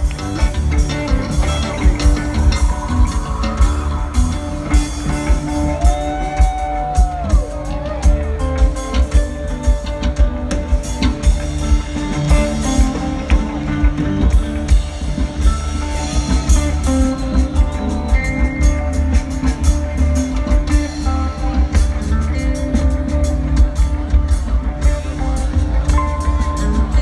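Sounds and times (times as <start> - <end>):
bass guitar: 0.0 - 27.0
electric guitar lead: 0.0 - 27.0
steady drum beat: 0.0 - 27.0.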